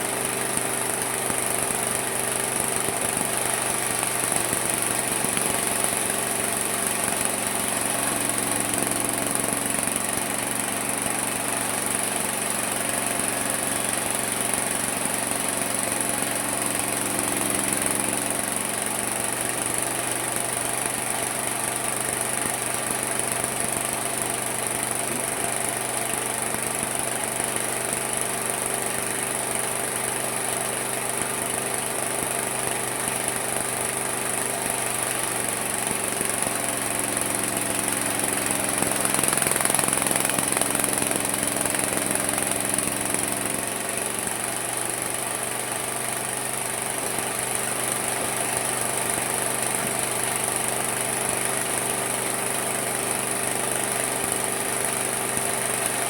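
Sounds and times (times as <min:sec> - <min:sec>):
sawmill motor running: 0:00.0 - 0:56.0.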